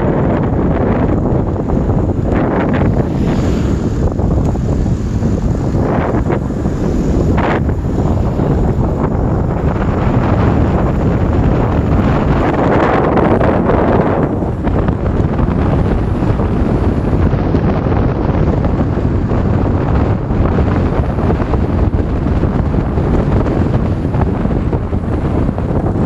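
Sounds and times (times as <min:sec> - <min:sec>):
motorcycle running: 0:00.0 - 0:26.0
road noise: 0:00.0 - 0:26.0
wind rushing over microphone: 0:00.0 - 0:26.0.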